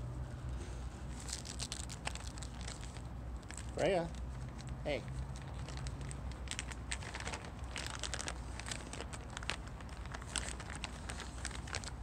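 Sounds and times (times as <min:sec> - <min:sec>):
treat bag crinkling: 0:01.1 - 0:12.0.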